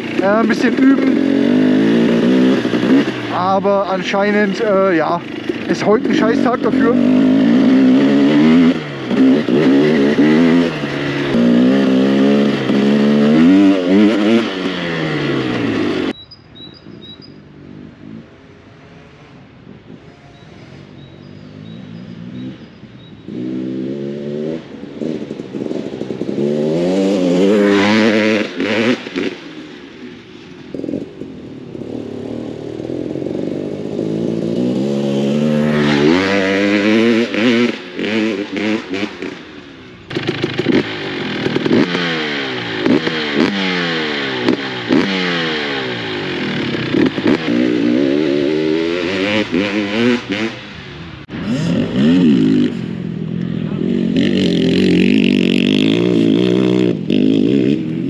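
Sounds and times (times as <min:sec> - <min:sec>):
dirt bike engine revving past: 0:00.0 - 0:16.1, 0:20.0 - 0:30.0, 0:30.8 - 0:58.0.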